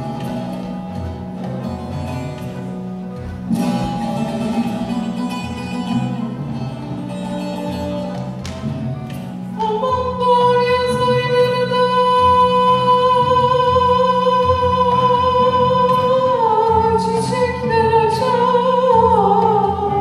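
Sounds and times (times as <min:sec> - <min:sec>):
plucked string instruments: 0:00.0 - 0:20.0.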